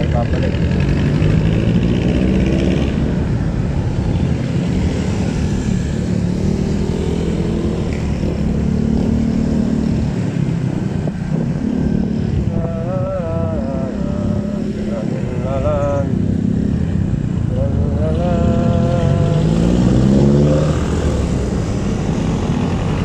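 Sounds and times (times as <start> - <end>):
other vehicles: 0.0 - 23.0.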